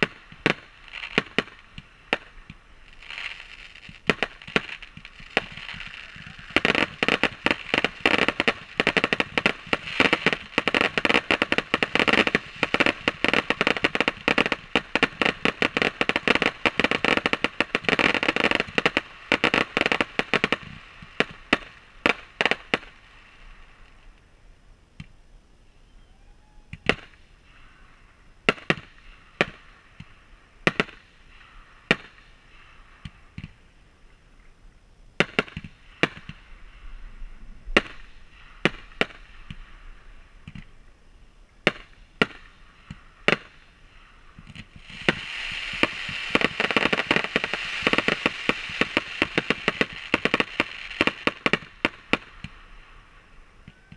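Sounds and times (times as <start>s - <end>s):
fireworks bangs: 0.0s - 24.2s, 26.7s - 27.6s, 28.4s - 33.7s, 35.2s - 53.9s.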